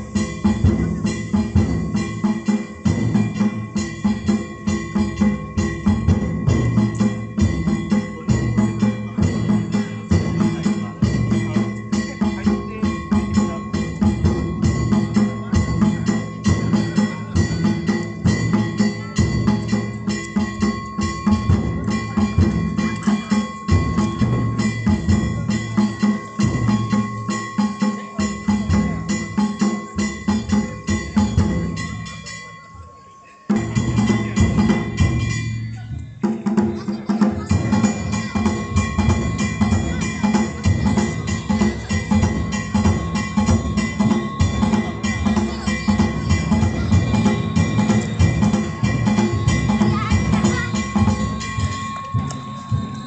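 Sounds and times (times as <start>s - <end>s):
drums and metal gongs: 0.0s - 53.0s
steady high tones: 0.0s - 53.0s.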